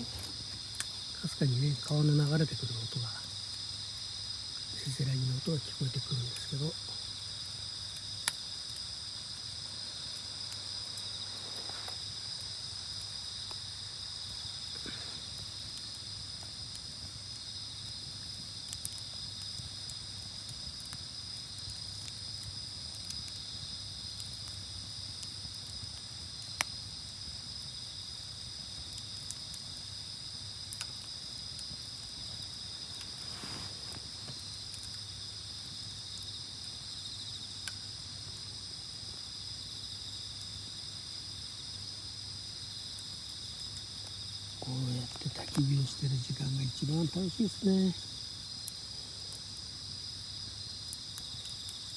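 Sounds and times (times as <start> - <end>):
campfire wood popping: 0.0 - 51.9
insects trilling: 0.0 - 51.9.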